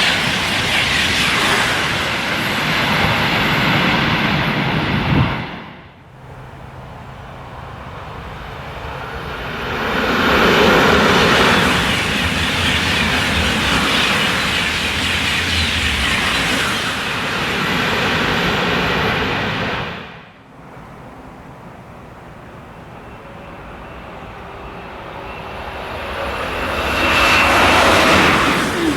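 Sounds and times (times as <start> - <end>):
high-speed train rushing past: 0.0 - 28.9.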